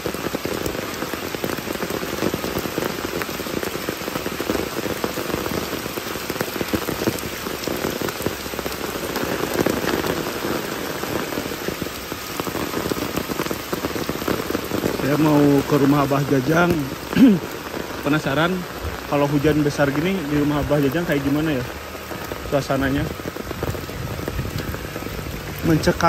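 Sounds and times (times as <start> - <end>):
heavy rain on dirt road: 0.0 - 26.0.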